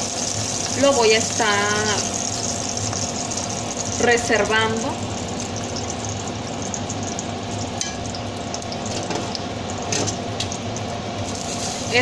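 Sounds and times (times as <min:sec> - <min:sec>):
hot oil sizzling in a pan: 0:00.0 - 0:12.0.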